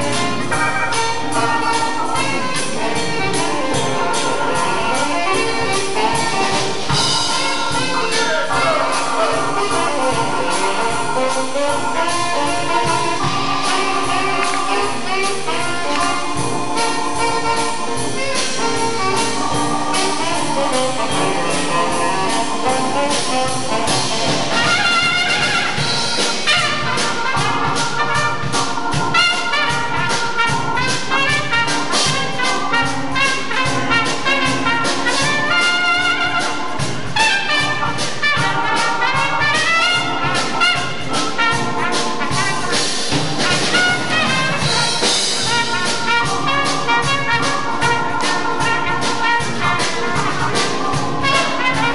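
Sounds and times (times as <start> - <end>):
drums: 0.0 - 51.9
live jazz band playing: 0.0 - 51.9
saxophones and brass horns: 0.0 - 51.9.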